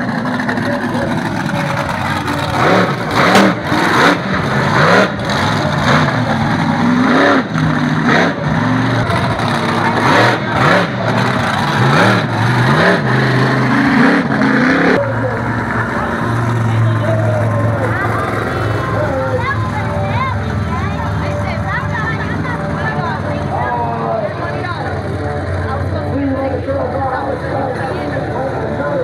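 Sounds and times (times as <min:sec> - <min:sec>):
rough engine bursts: 0:00.0 - 0:23.6
monster truck engine revving: 0:00.0 - 0:29.0.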